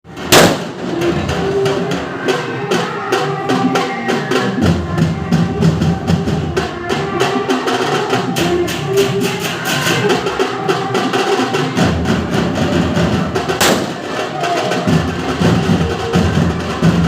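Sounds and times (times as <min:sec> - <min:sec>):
group of drums playing fast beat: 0:00.1 - 0:17.0.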